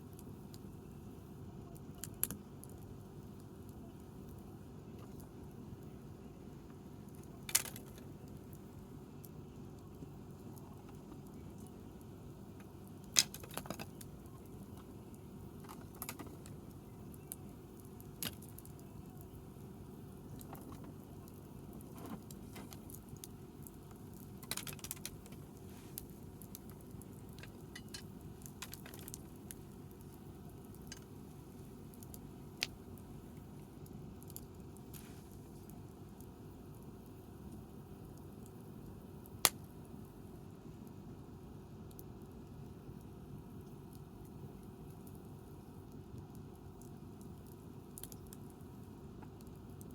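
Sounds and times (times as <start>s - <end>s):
campfire crackling and popping: 0.0s - 41.0s, 41.7s - 49.9s
low background noise: 0.0s - 49.9s.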